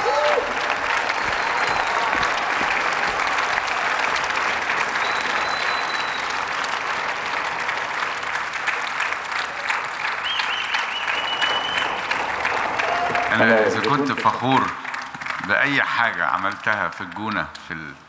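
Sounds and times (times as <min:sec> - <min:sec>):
large audience clapping: 0:00.0 - 0:18.0.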